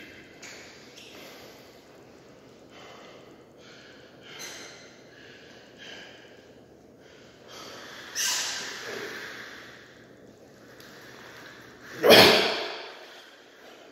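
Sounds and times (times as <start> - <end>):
man breathing heavily: 1.0 - 13.9.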